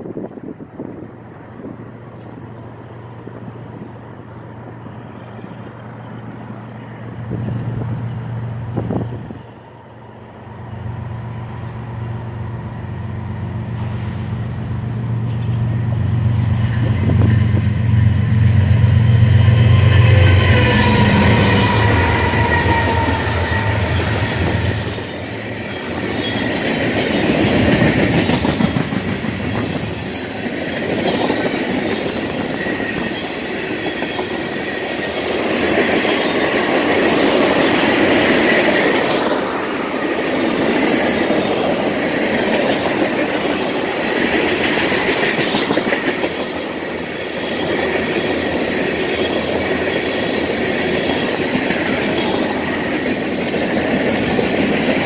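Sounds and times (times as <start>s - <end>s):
diesel locomotive engines droning: 0.0s - 55.0s.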